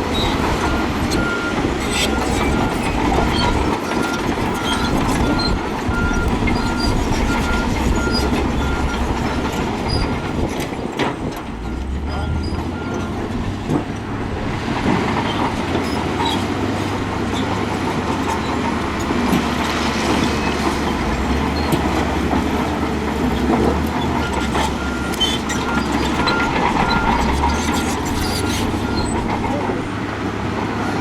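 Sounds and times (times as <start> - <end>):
metal tracks clanking: 0.0 - 30.8
bulldozer diesel engine running: 0.0 - 31.0.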